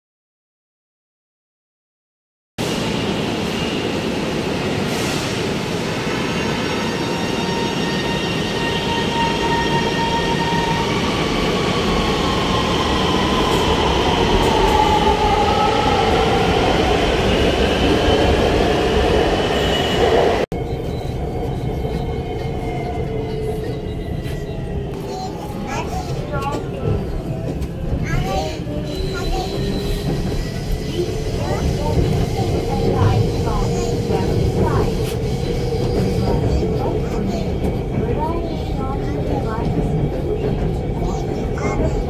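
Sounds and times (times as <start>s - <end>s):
train wheels rumbling on rail: 2.6s - 42.0s.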